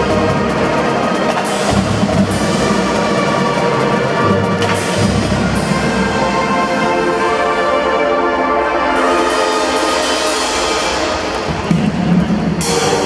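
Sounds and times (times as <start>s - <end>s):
marching drum band playing: 0.0s - 13.0s.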